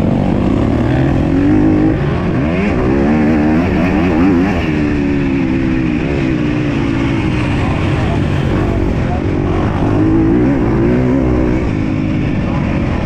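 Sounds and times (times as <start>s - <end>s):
motocross bike engine revving: 0.0s - 13.0s.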